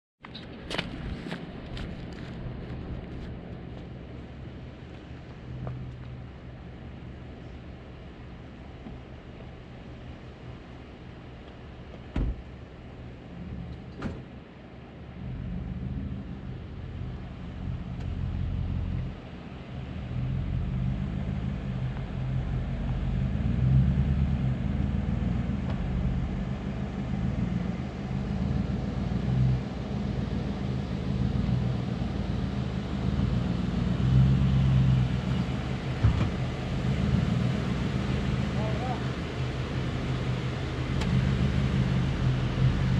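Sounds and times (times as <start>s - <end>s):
truck engine at low revs: 0.2s - 42.9s.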